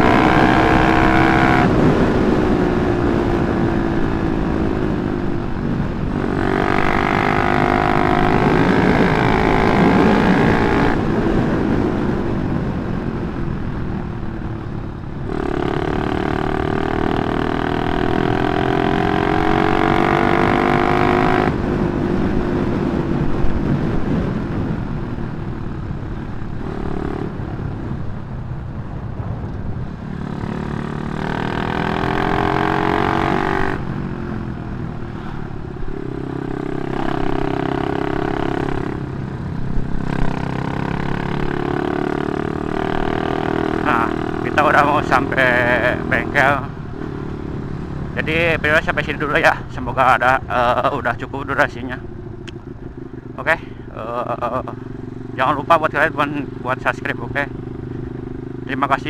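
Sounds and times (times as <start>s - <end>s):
low wind rumble: 0.0s - 59.0s
motorcycle engine accelerating: 0.0s - 59.0s.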